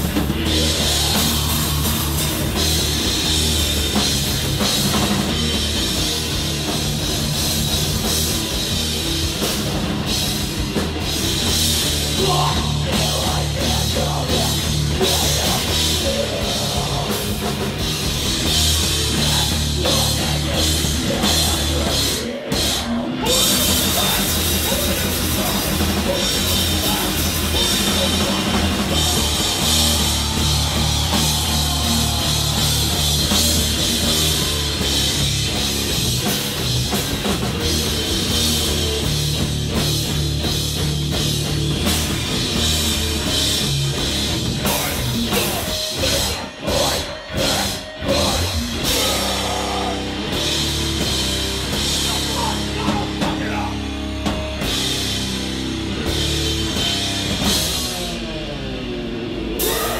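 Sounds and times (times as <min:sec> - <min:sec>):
drum kit: 0:00.0 - 0:59.9
punk band playing live: 0:00.0 - 0:59.9.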